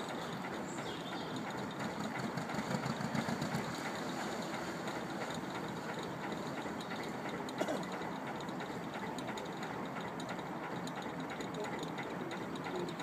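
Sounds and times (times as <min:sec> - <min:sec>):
boat engine running: 0:00.0 - 0:13.0
paddlewheel mechanical clatter: 0:00.0 - 0:13.0.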